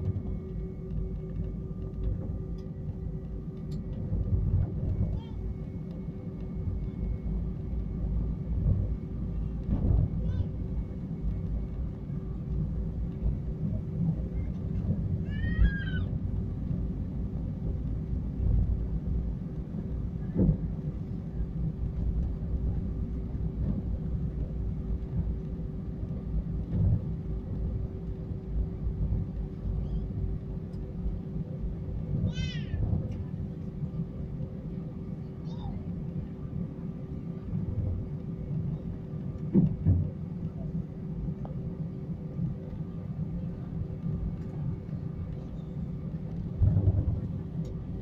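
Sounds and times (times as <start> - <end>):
faint engine hum: 0.0 - 48.0
low cabin rumble: 0.0 - 48.0.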